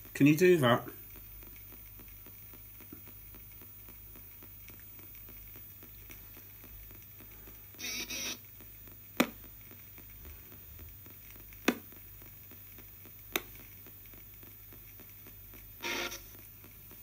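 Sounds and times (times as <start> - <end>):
radio static and hum: 0.0 - 17.0.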